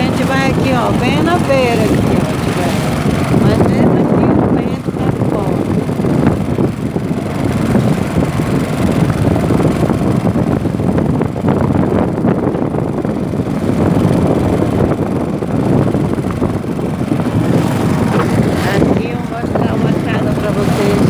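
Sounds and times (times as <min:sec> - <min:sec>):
canoe moving through choppy water: 0:00.0 - 0:21.0
wind buffeting microphone: 0:00.0 - 0:21.0.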